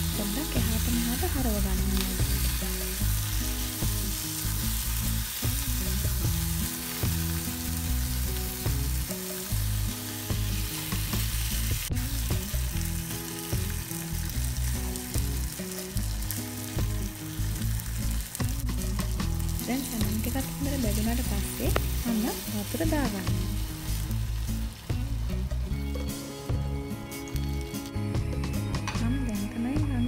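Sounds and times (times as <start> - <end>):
food sizzling in a pan: 0.0 - 29.6.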